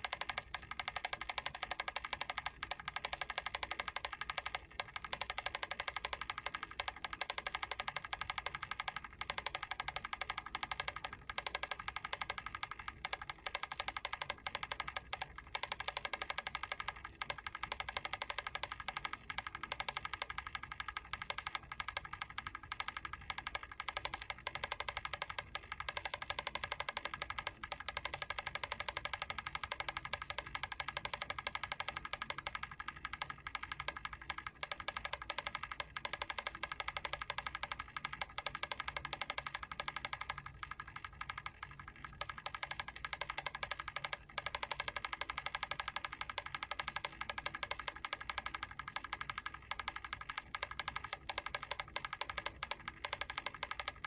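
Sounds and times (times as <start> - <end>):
mechanical timer ticking: 0.0 - 54.0.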